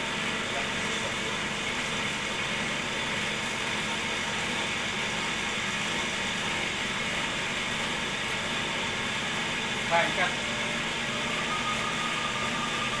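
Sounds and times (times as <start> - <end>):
cotton candy machine motor: 0.0 - 13.0.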